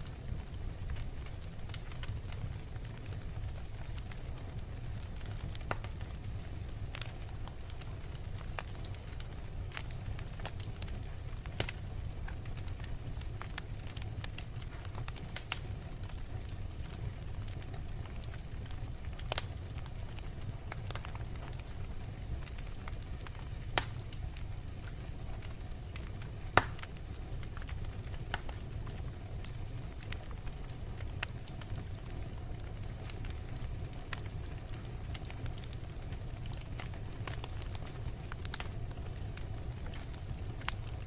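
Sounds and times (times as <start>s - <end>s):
fire flames rumbling: 0.0s - 41.0s
logs crackling and popping: 0.0s - 41.0s.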